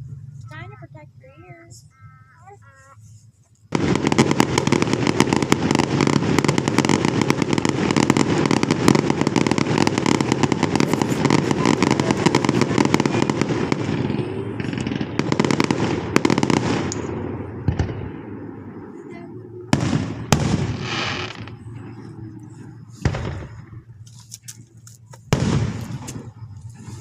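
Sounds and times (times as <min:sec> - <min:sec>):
fireworks rapid bangs: 0:03.7 - 0:24.1, 0:25.0 - 0:27.0.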